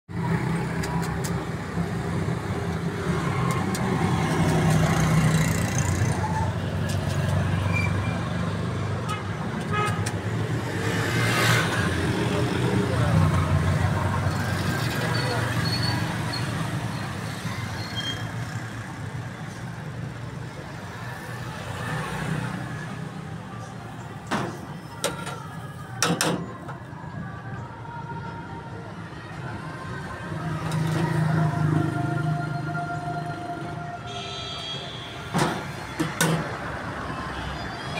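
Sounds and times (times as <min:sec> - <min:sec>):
street traffic: 0:00.1 - 0:37.9.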